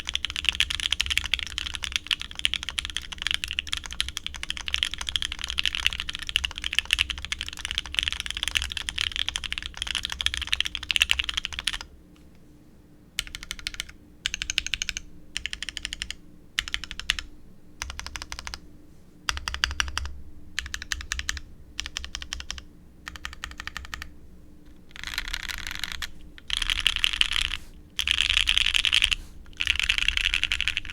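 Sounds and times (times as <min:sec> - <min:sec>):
mechanical keyboard typing: 0:00.0 - 0:11.9, 0:13.2 - 0:18.6, 0:19.3 - 0:24.1, 0:24.9 - 0:30.9.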